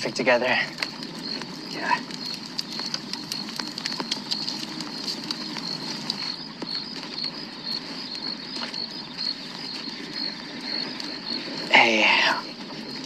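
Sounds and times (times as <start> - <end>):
bonfire crackling and popping: 0.0 - 13.0
night insects chirping: 0.0 - 13.0.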